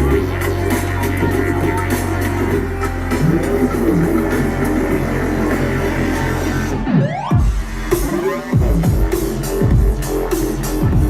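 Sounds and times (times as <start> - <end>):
heavy bass line: 0.0 - 11.0
repeating synth pattern: 0.0 - 11.0.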